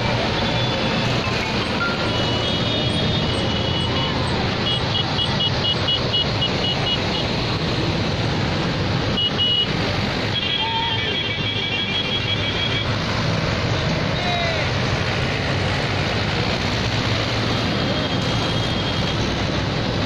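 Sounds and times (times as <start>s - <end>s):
tractor engines running: 0.0s - 10.4s, 12.0s - 20.0s.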